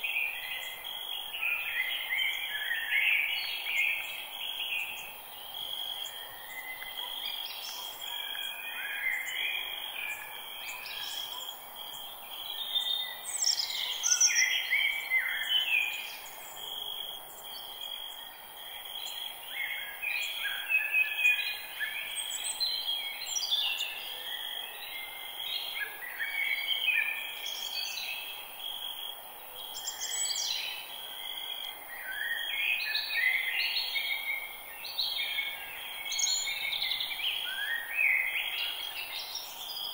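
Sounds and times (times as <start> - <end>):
birds singing and chirping: 0.0 - 28.4, 29.6 - 39.9
faint background hiss: 0.0 - 39.9.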